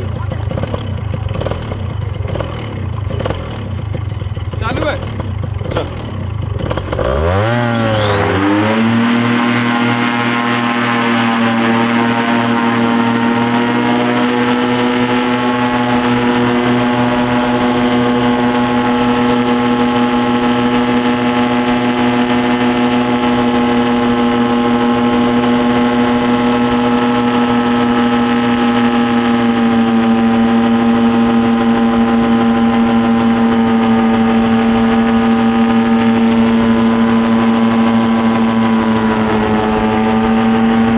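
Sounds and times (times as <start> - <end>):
small engine revving: 0.0 - 40.9.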